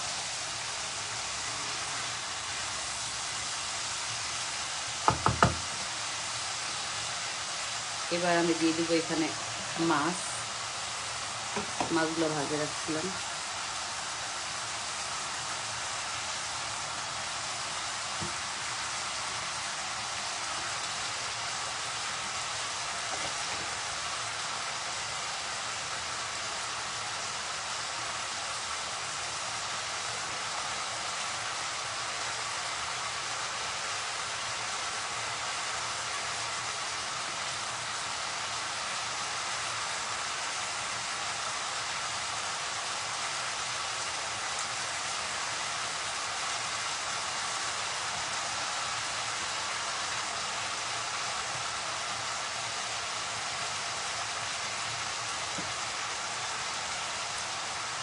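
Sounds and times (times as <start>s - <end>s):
food sizzling in oil: 0.0s - 52.6s.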